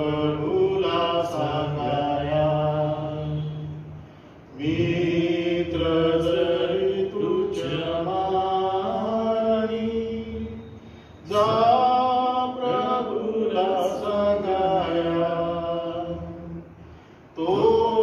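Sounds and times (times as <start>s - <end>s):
person singing a slow hymn: 0.0s - 18.0s.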